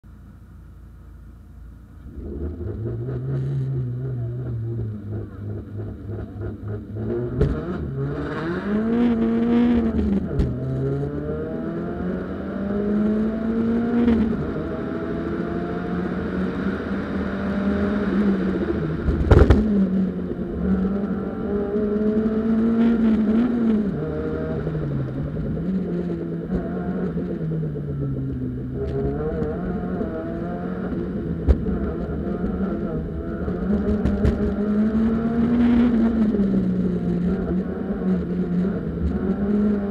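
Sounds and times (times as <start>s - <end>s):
rally car engine accelerating: 2.0s - 39.9s.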